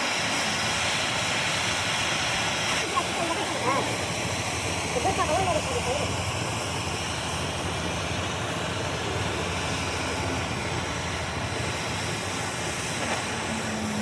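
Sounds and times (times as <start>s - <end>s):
machine running with low hum: 0.0s - 14.0s.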